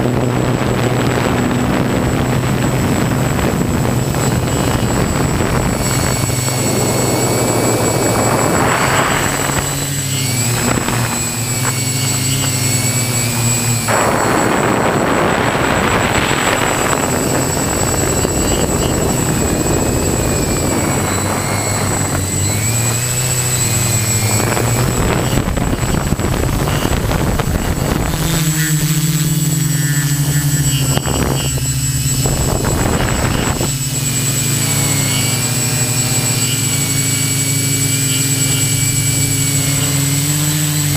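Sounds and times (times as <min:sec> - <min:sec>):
rushing noise: 0:00.0 - 0:35.1
drone motors buzzing: 0:00.0 - 0:40.9.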